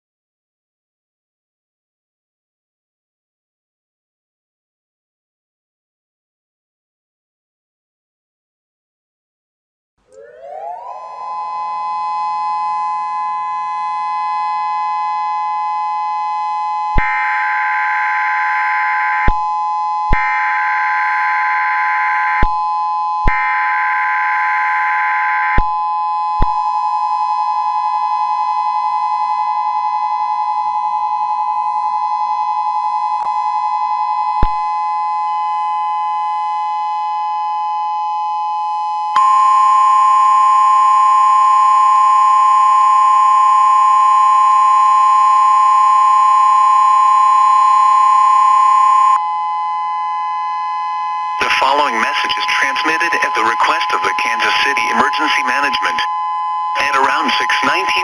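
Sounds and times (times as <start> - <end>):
electronic siren wailing: 10.0 - 58.0.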